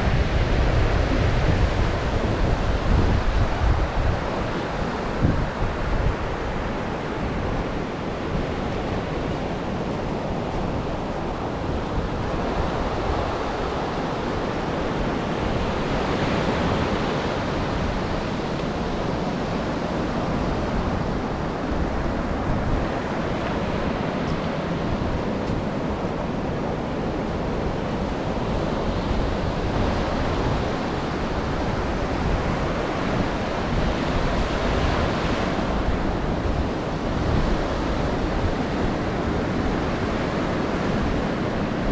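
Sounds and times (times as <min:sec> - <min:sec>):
ocean surf washing onto beach: 0:00.0 - 0:41.9
wind rumbling on microphone: 0:00.0 - 0:41.9.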